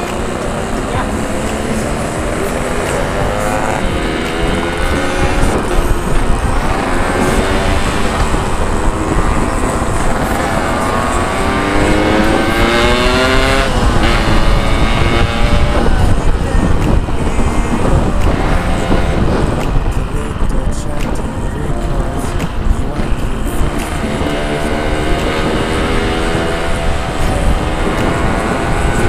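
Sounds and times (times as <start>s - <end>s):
motorcycle accelerating: 0.0s - 29.0s
wind on microphone: 0.0s - 29.0s.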